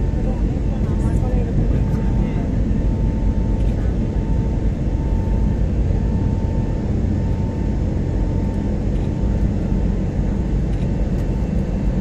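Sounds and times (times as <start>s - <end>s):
airliner cabin engine noise: 0.0s - 12.0s
thin steady whine: 0.0s - 12.0s.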